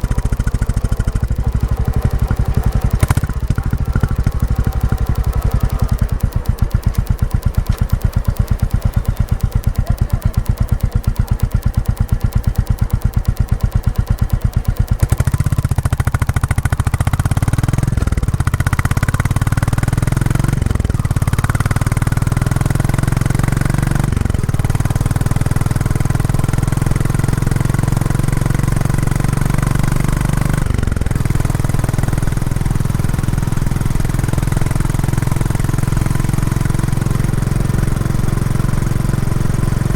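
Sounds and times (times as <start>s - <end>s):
motorcycle engine thumping: 0.0s - 39.9s.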